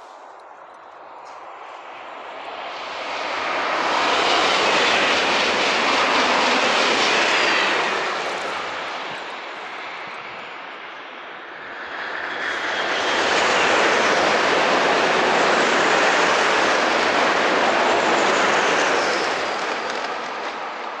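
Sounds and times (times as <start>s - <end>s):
high-speed train rushing past: 1.0s - 21.0s.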